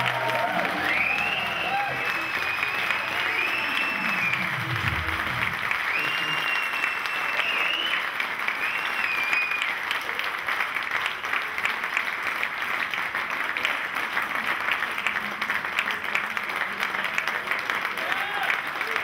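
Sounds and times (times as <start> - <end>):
large crowd applauding: 0.0 - 19.0.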